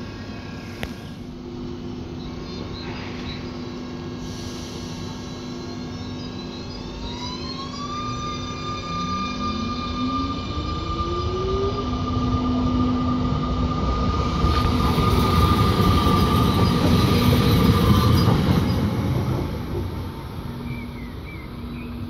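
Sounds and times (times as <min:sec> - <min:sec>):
train wheels rumbling on rail: 0:00.0 - 0:22.0
traction motor whine: 0:01.9 - 0:22.0.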